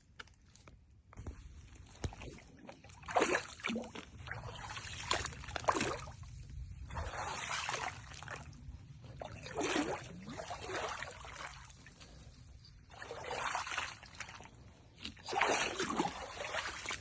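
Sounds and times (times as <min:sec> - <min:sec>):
footsteps wading through water: 0:00.7 - 0:17.0.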